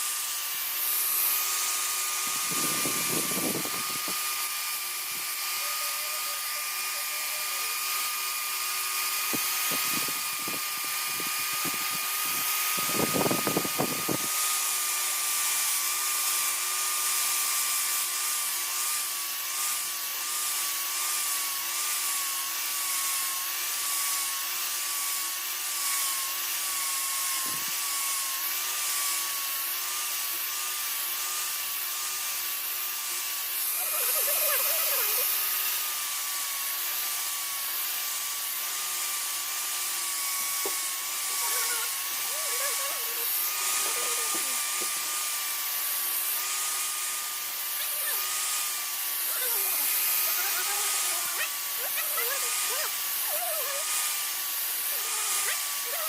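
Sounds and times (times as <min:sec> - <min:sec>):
power tool motor whining: 0:00.0 - 0:56.0.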